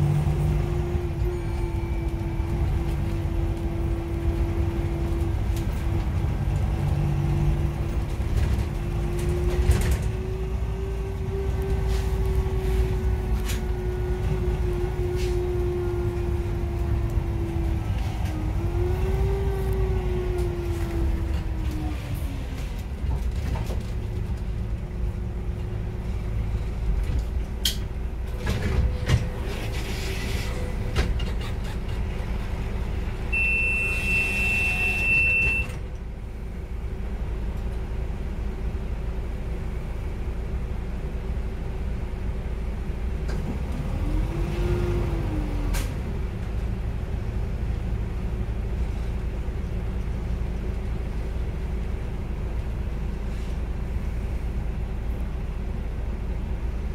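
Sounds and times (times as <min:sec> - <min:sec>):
bus diesel engine idling: 0:00.0 - 0:43.6, 0:45.0 - 0:56.9.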